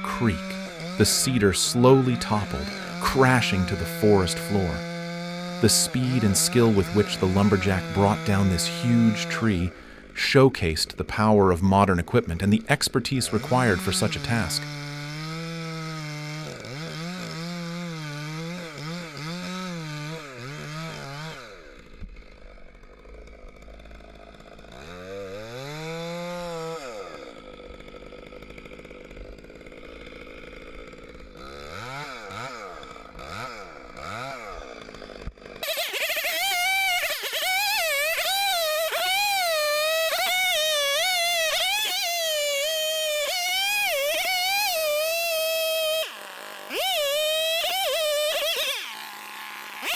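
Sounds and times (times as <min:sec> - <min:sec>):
chainsaw revving while cutting: 0:00.0 - 0:49.9.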